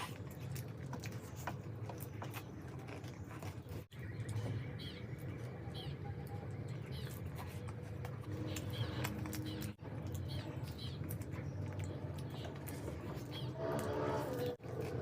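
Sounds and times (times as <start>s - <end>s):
wet chewing and mouth smacking: 0.0s - 15.0s.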